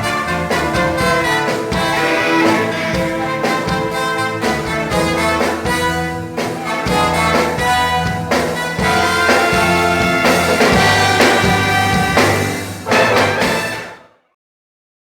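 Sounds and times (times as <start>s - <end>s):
steady drum beat: 0.0s - 14.0s
brass band and orchestra playing: 0.0s - 14.2s
trumpets and trombones chords: 0.0s - 14.2s.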